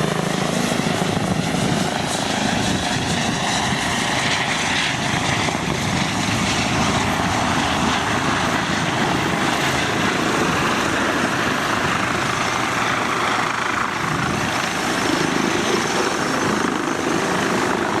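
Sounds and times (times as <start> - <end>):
helicopter engine and rotor: 0.0 - 18.0.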